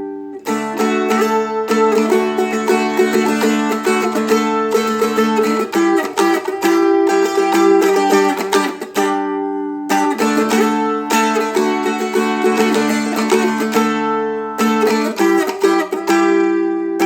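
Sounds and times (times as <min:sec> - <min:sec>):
dulcimer strumming: 0:00.0 - 0:17.0.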